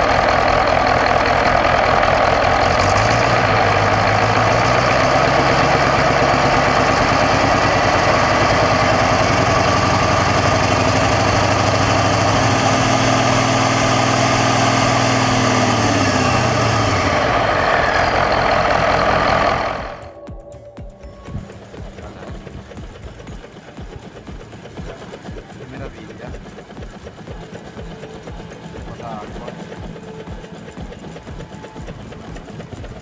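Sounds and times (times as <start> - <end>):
large engine running: 0.0 - 33.0.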